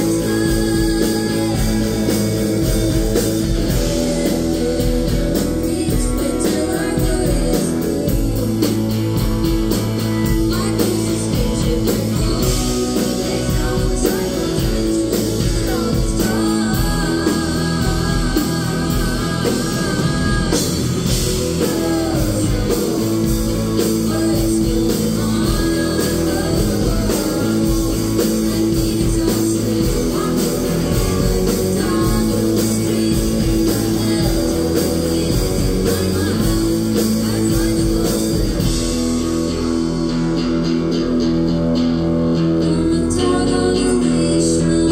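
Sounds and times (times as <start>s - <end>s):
woman singing: 0.0s - 39.2s, 42.6s - 44.9s
bass guitar: 0.0s - 44.9s
drum kit: 0.0s - 44.9s
electric guitars: 0.0s - 44.9s.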